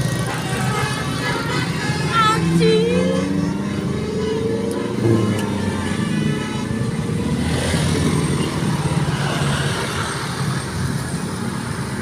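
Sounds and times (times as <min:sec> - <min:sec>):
road noise rush: 0:00.0 - 0:12.0.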